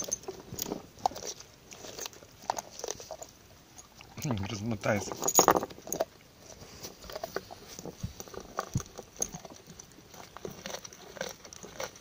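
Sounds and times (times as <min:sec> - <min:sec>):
dog gnawing corn cob: 0:00.0 - 0:12.0.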